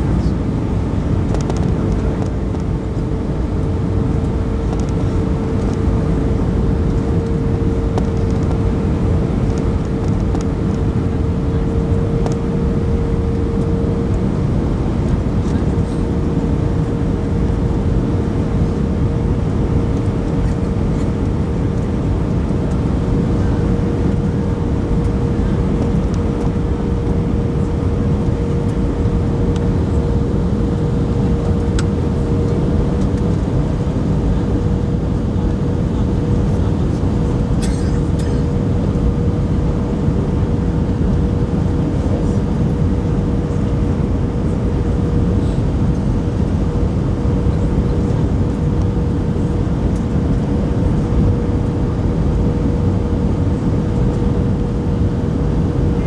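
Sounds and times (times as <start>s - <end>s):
constant hum: 0.0s - 56.0s
jet engine and airflow rumble: 0.0s - 56.0s.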